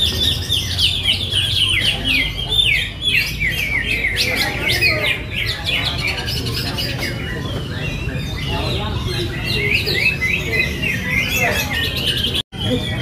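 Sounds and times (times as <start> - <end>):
chorus of birds singing: 0.0 - 13.0.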